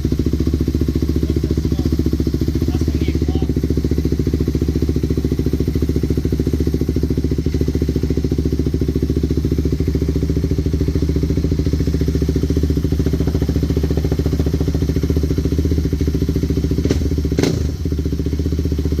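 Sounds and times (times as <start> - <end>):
quad engine idling: 0.0 - 19.0.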